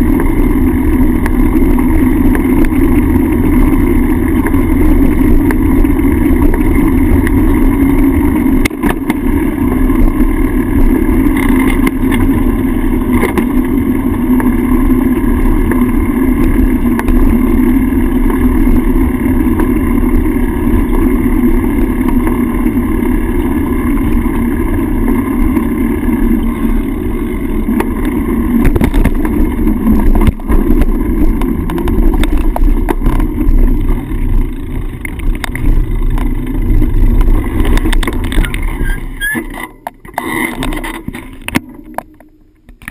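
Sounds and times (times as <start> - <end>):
road rumble: 0.0 - 42.9.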